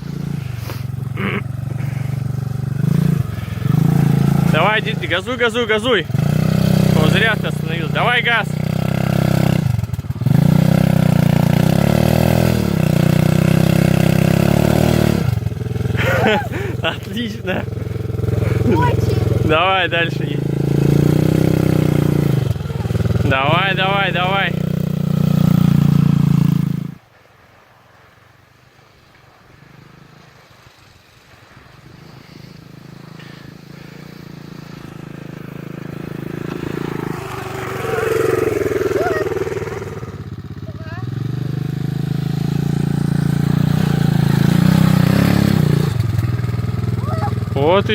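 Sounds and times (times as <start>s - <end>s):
small motorbike engine revving: 0.0s - 27.0s, 29.6s - 47.9s.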